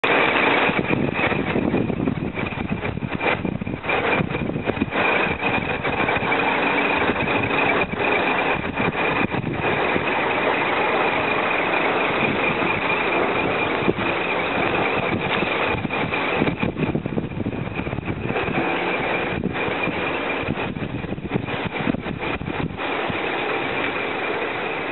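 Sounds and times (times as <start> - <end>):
coach engine running: 0.0 - 24.9.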